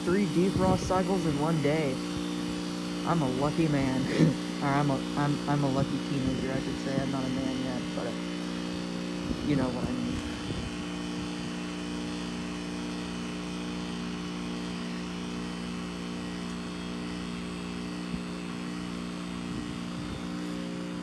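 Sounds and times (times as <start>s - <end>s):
heat pump compressor hum: 0.0s - 21.0s.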